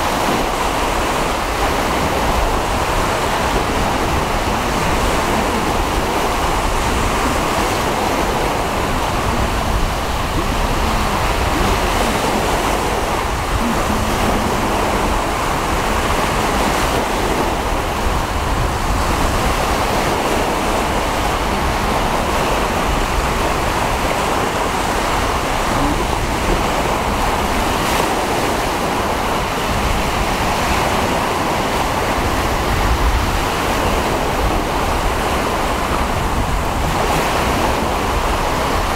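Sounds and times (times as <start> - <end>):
sea waves washing: 0.0 - 38.9
wind rumbling on microphone: 0.0 - 38.9.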